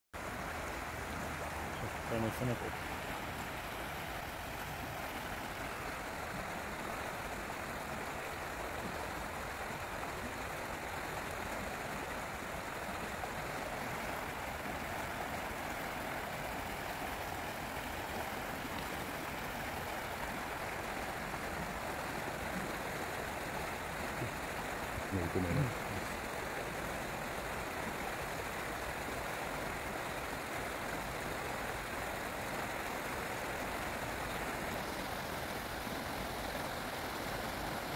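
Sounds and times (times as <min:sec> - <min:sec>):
stream rushing over gravel: 0:00.2 - 0:37.9.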